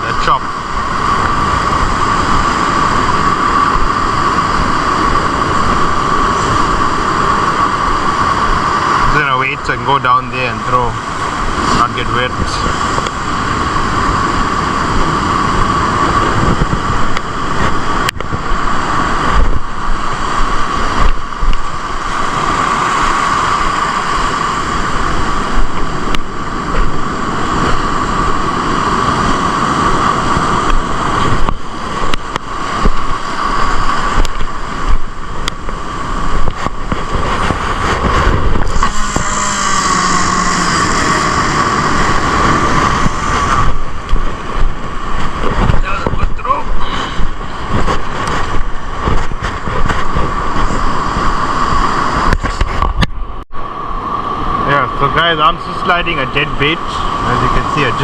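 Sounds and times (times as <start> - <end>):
constant high hum: 0.0 - 58.0
surf washing: 0.0 - 58.0
wind buffeting microphone: 0.0 - 58.0.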